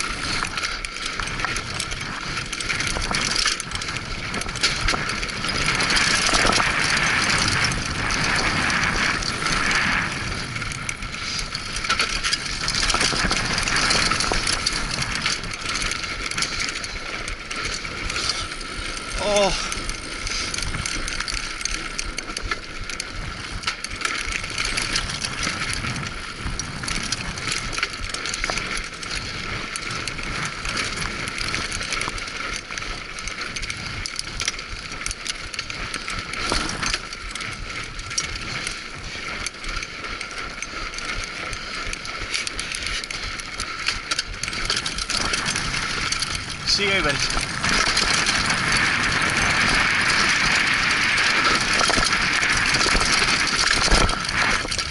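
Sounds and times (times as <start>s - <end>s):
bike rattling: 0.0s - 54.9s
tyres on dirt and stones: 0.0s - 54.9s.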